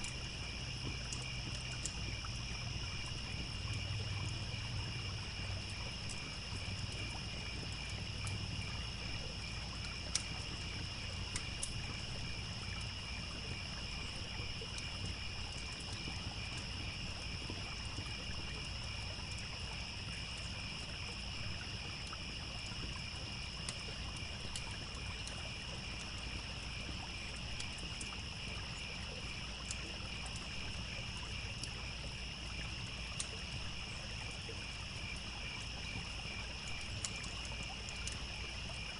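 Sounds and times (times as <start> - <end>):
campfire popping and crackling: 0.0 - 38.9
crickets chirping: 0.0 - 38.9.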